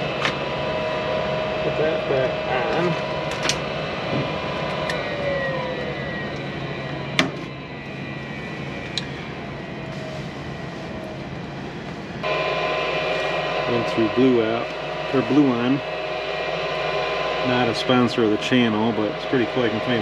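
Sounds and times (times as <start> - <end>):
gas furnace humming: 0.0 - 20.0.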